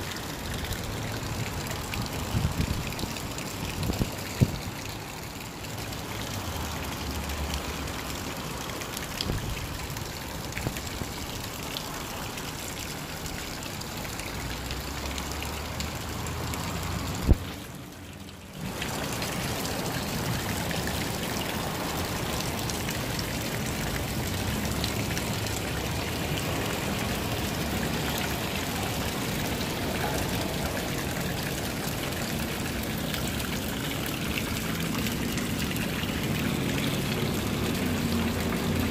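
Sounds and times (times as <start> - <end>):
fountain water splashing: 0.0 - 38.9.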